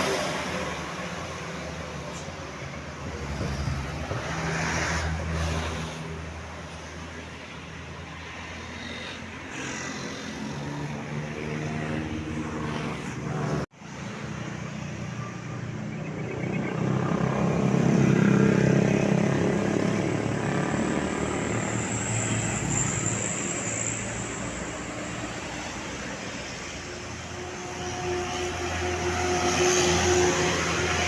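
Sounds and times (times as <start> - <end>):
bus engine passing: 0.0 - 31.0.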